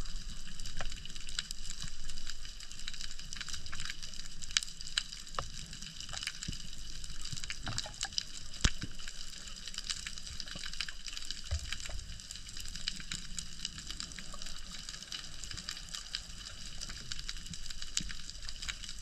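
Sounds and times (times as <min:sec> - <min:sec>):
underwater clicks and crackles: 0:00.0 - 0:19.0.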